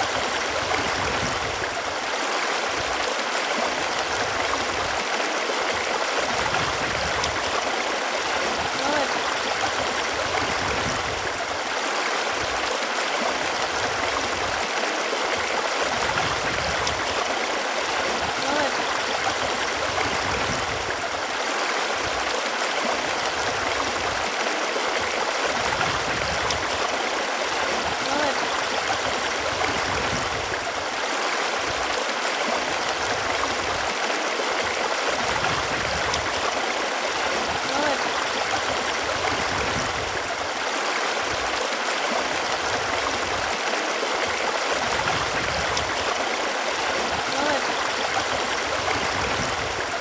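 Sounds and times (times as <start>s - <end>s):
running water gurgling: 0.0s - 50.0s.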